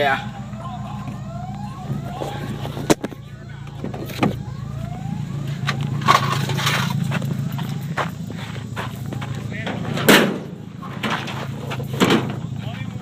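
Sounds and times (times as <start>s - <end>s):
car engine idling without muffler: 0.0s - 13.0s.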